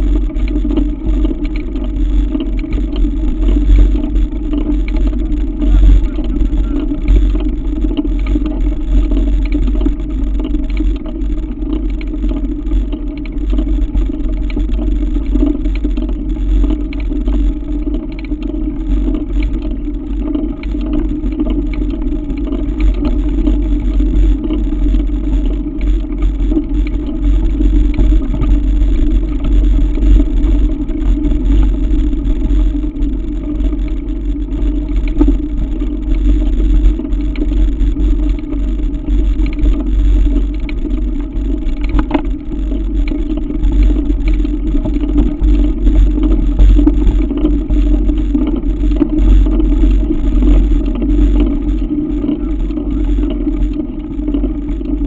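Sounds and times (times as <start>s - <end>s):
bike rattling: 0.0s - 55.0s
bike tyres rolling on gravel: 0.0s - 55.0s.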